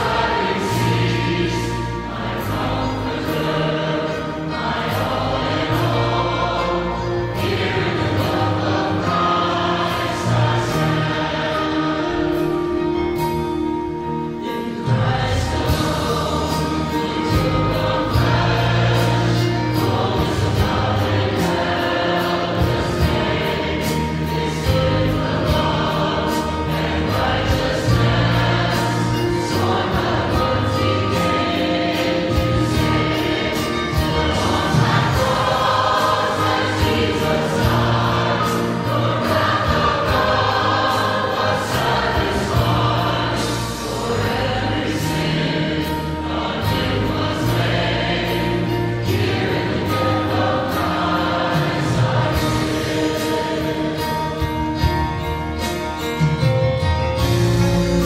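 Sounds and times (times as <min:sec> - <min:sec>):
choir singing: 0:00.0 - 0:58.0.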